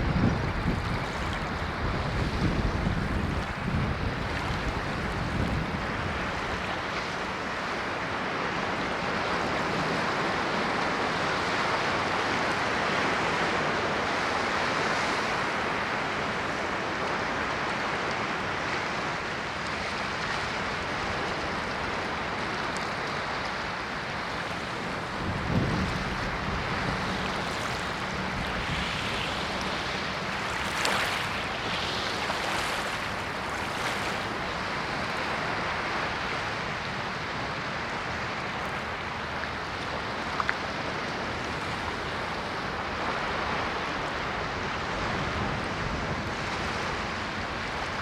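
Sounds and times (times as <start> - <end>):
ocean surf washing: 0.0 - 48.0.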